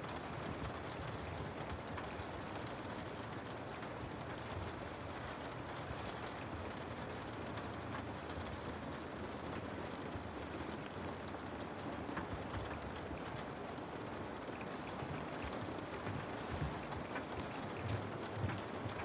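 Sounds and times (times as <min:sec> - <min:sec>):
rain pattering on a window: 0:00.0 - 0:19.0.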